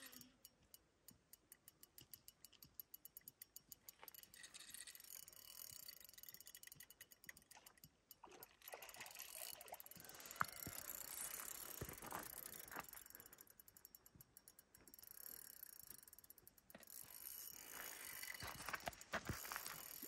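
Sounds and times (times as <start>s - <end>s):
fishing reel gears clicking: 0.0s - 20.0s.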